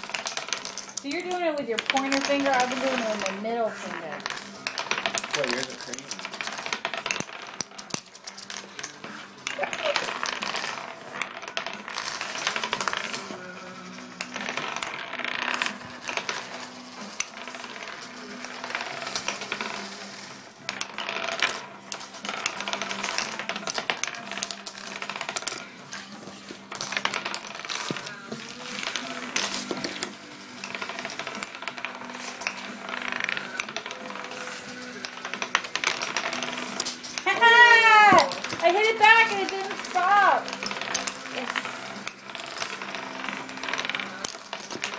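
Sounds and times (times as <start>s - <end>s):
wooden discs clicking: 0.0s - 44.9s
wooden discs spinning and rattling: 0.0s - 44.9s.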